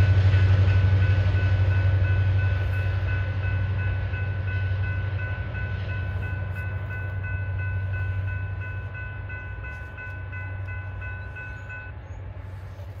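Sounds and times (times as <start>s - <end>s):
railroad crossing bells ringing: 0.0s - 13.0s.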